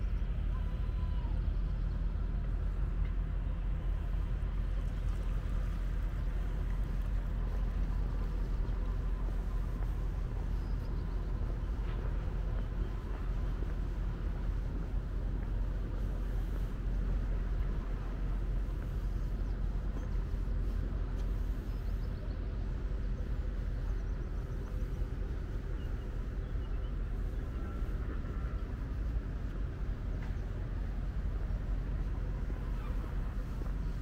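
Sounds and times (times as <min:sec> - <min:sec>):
distant engines and traffic: 0:00.0 - 0:34.0.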